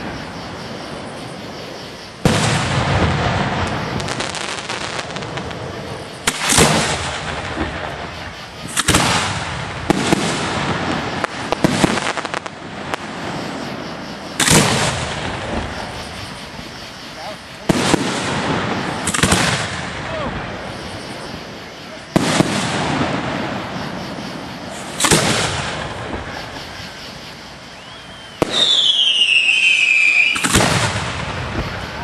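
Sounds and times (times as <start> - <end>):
firework shells booming: 0.0 - 32.0
fireworks crackling and popping: 0.0 - 32.0.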